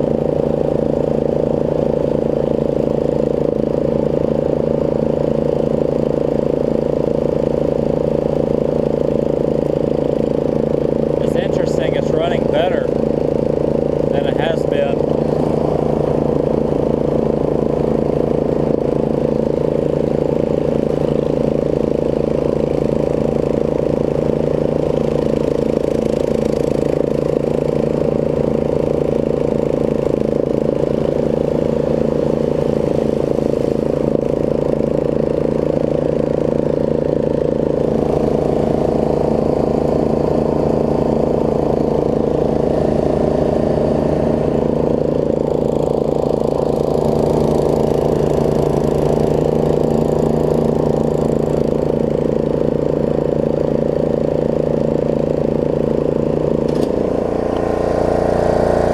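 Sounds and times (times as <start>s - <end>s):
riding mower engine running: 0.0s - 58.9s.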